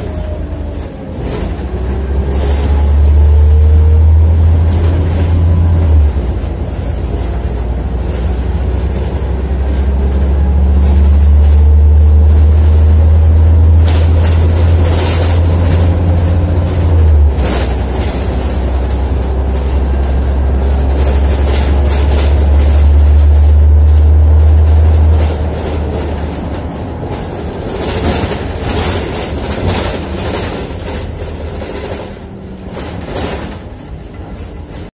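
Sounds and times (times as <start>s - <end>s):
bus engine drone: 0.0s - 34.9s
interior clicks and rattles: 0.0s - 34.9s.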